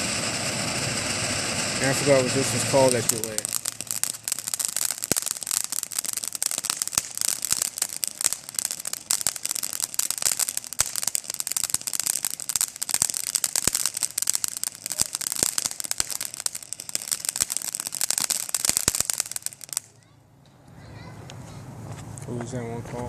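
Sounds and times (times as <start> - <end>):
fountain firework hissing and crackling: 0.0 - 20.0.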